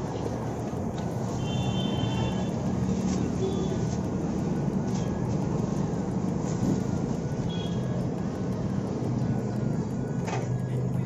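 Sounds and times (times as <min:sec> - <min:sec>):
gas burner rushing: 0:00.0 - 0:11.0.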